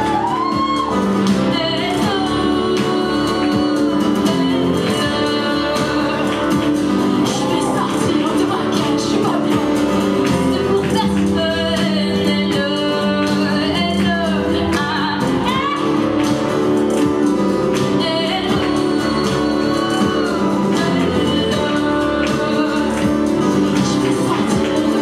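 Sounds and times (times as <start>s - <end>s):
strummed acoustic guitar: 0.0s - 25.0s
woman singing: 0.0s - 25.0s.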